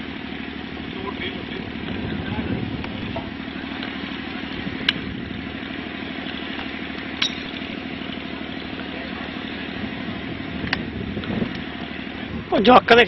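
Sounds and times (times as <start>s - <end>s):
steady engine-like hum: 0.0s - 13.0s.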